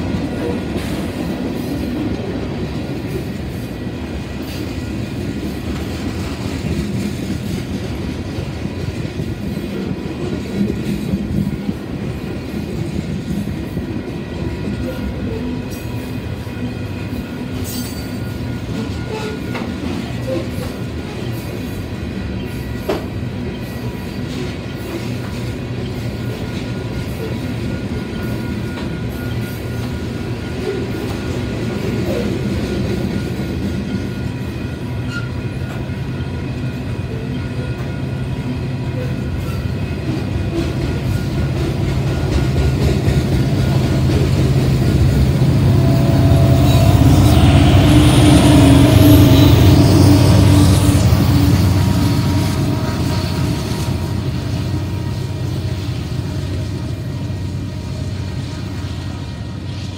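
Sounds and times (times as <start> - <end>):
diesel locomotive engine drone: 0.0 - 59.9
freight train rumbling: 0.0 - 59.9.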